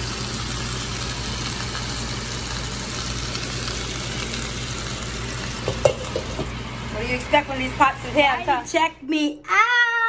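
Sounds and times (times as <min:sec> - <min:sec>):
steak sizzling in a pan: 0:00.0 - 0:08.3.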